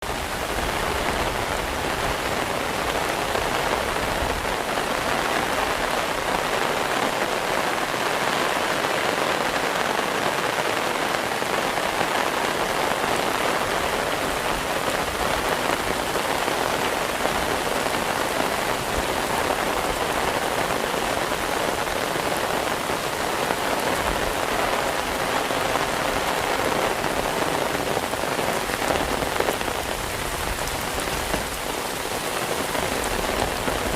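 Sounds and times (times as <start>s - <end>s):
heavy rain splashing: 0.0s - 33.9s.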